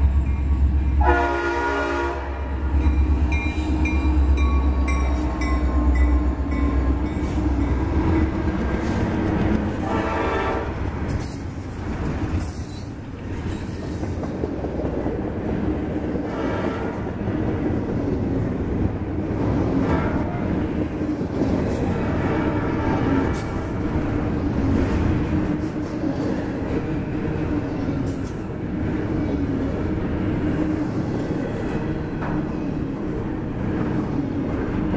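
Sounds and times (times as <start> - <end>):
steel wheels on rail: 0.0 - 34.9.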